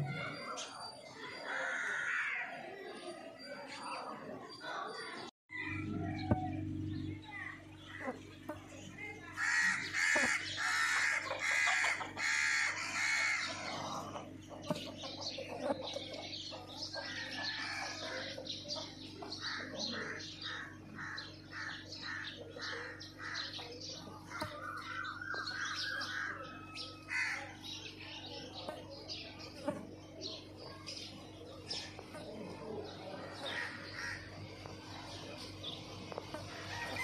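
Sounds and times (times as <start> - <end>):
sparrows chirping: 0.0 - 5.3, 6.1 - 37.0.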